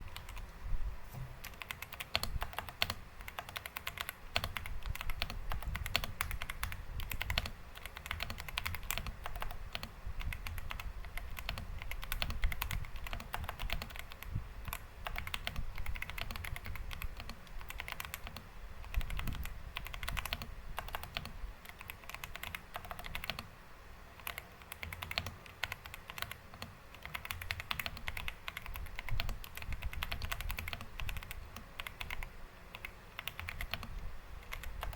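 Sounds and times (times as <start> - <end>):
mechanical keyboard typing: 0.0 - 0.5, 1.4 - 23.5, 24.2 - 34.9.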